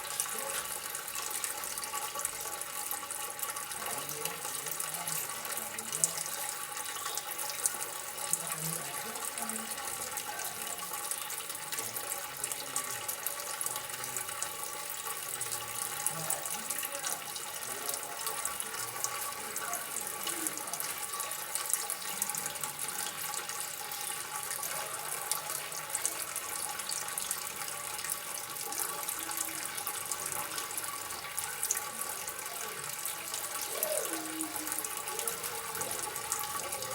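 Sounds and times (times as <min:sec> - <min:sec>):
water trickling and splashing: 0:00.0 - 0:36.9.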